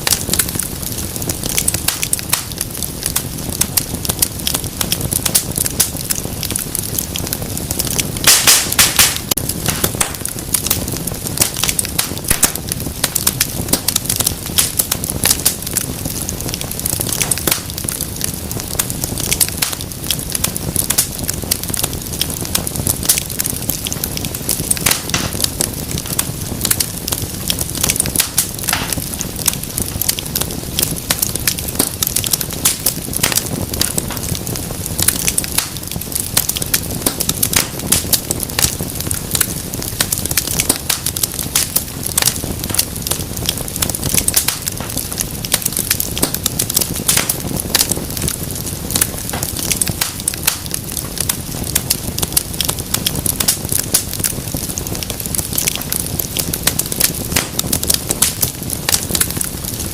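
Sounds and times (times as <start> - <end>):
low rushing flame: 0.0 - 59.9
wood fire crackling and popping: 0.0 - 59.9.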